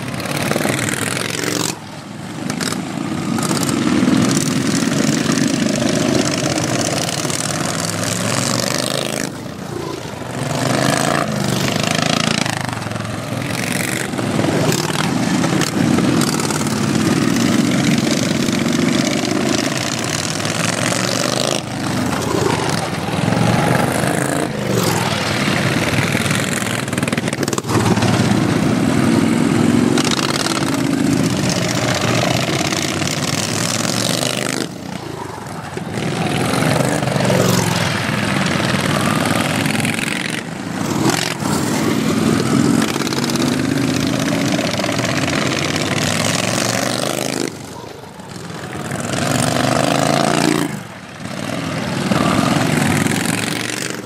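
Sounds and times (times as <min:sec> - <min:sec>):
lawn tractor engines racing: 0:00.0 - 0:54.0.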